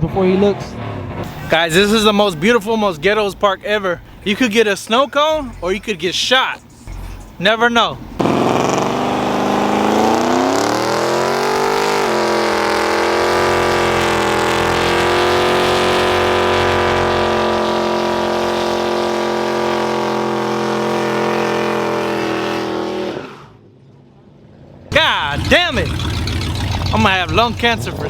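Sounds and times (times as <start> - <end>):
truck engine revving: 0.0 - 23.5, 24.9 - 28.0
spinning tyres hissing: 1.2 - 22.1, 24.9 - 28.0.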